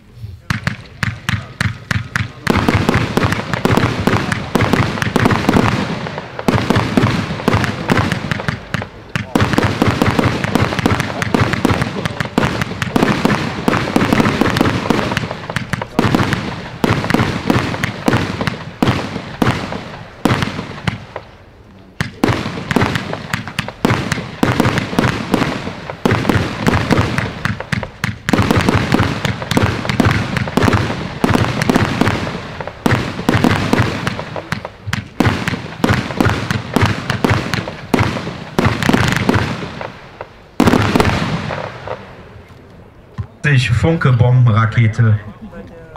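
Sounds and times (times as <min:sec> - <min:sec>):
fireworks launching and bursting: 0:00.0 - 0:45.2.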